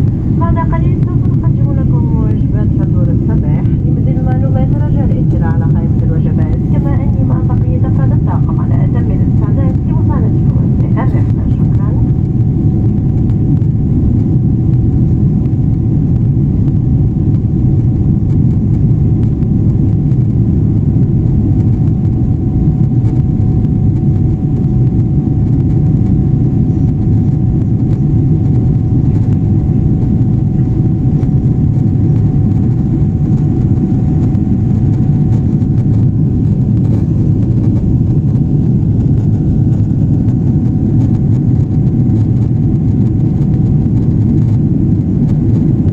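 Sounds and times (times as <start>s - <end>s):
jet engines rumbling: 0.0s - 45.9s.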